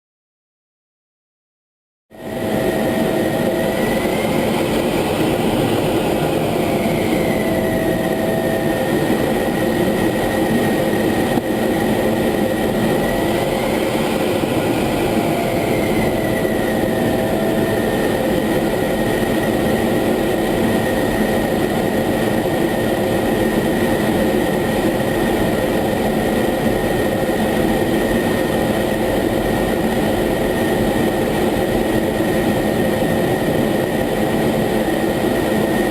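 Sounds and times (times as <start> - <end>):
jet engine whine in cockpit: 2.1 - 35.9.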